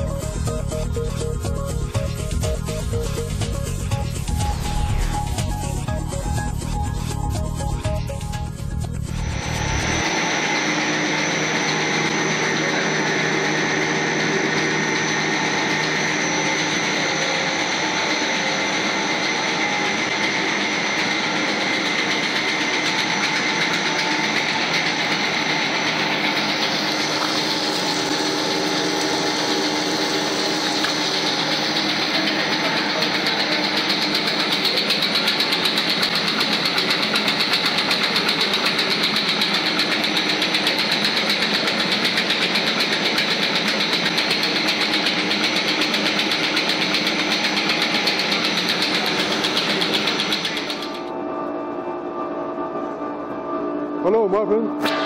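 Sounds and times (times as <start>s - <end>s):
motor and gear noise: 0.0s - 51.6s
machine hum and whine: 0.0s - 55.0s.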